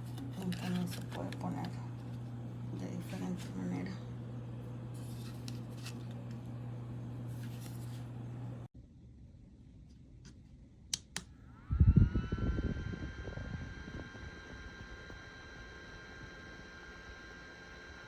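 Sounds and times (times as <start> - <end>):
small fan motor whine: 0.0 - 8.7, 9.7 - 18.0
steady low hum: 0.0 - 18.0.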